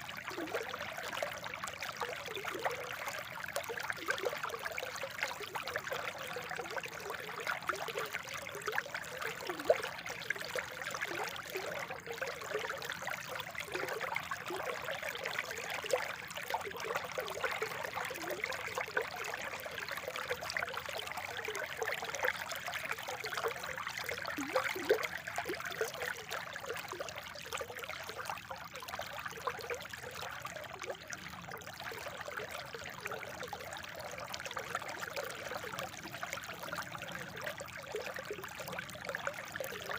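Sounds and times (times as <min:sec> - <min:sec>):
spring water trickling: 0:00.0 - 0:39.9.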